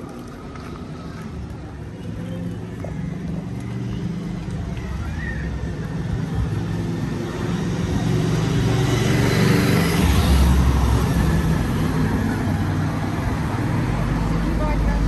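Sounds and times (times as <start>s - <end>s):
vehicle passing: 2.1s - 15.0s.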